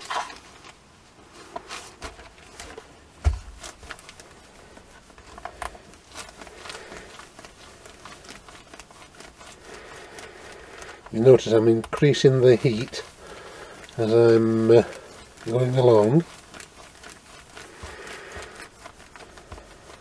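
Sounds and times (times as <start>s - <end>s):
newspaper rustling: 0.0s - 20.0s.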